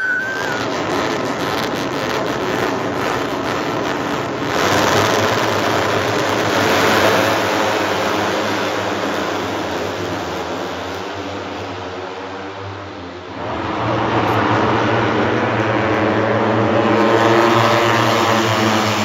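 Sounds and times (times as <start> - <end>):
rushing vehicle noise: 0.0 - 19.0.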